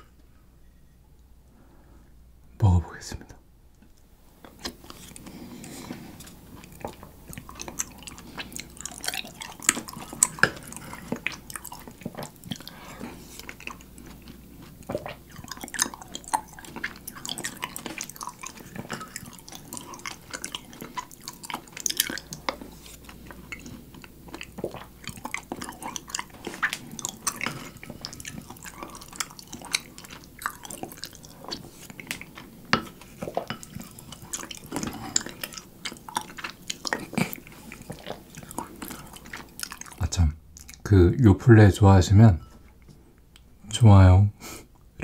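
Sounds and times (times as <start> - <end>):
wet sticky chewing: 4.4 - 40.9.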